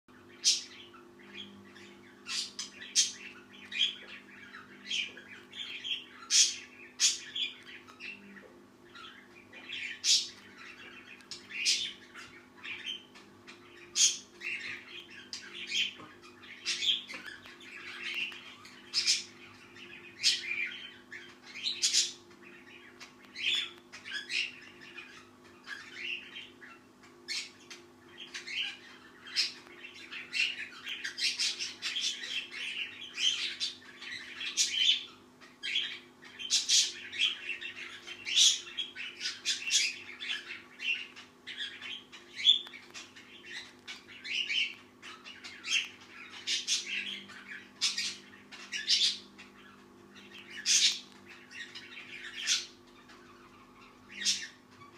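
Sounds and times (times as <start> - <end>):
faint steady hum: 0.1 - 54.9.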